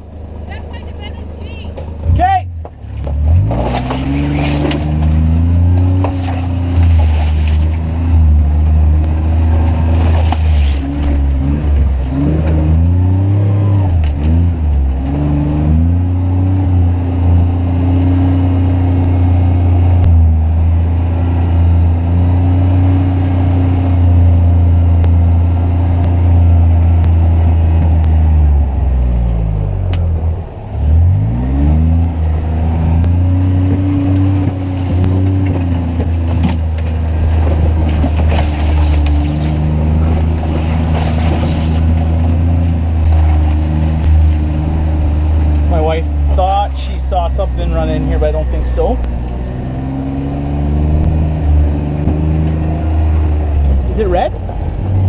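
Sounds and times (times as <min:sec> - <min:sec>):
utility vehicle engine running: 0:00.0 - 0:55.0.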